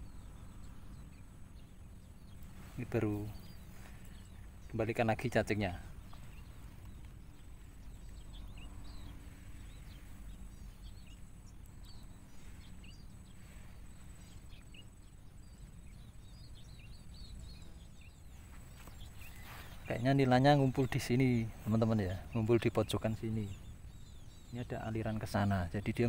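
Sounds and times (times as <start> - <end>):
low steady rumble: 0.0 - 26.0
small birds chirping: 0.0 - 26.0.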